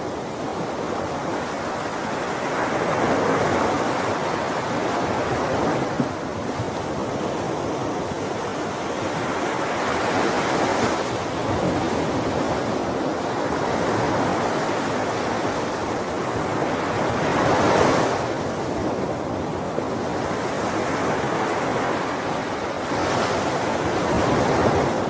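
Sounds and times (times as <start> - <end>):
ocean waves breaking on shore: 0.0 - 25.0.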